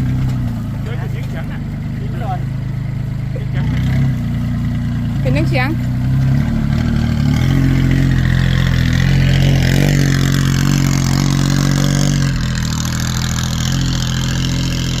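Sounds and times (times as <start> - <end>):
small diesel engine running: 0.0 - 15.0.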